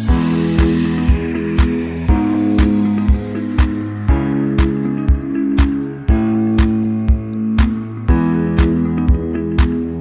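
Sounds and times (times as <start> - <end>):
instrumental guitar music with beat: 0.0 - 10.0.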